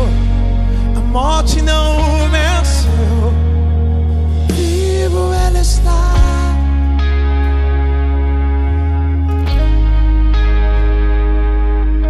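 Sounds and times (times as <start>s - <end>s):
slow instrumental worship music: 0.0s - 12.0s.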